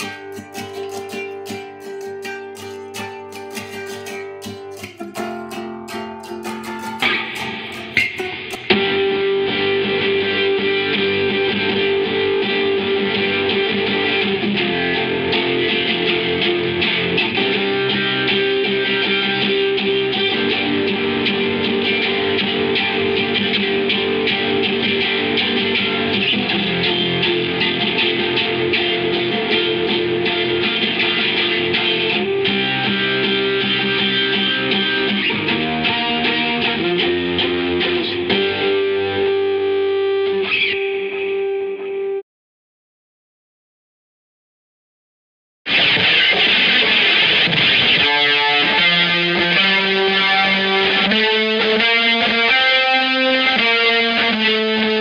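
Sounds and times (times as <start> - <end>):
distorted electric guitar strumming: 0.0 - 42.2, 45.7 - 55.0.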